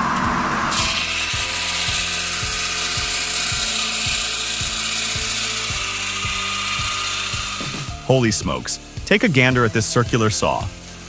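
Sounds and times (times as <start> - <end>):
wood-processing machine hissing: 0.0 - 11.0.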